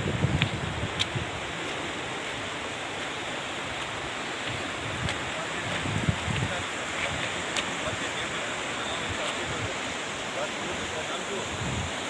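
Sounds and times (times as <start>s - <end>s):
wind on the microphone: 0.0s - 2.5s, 3.8s - 12.0s
river rushing: 0.0s - 12.0s.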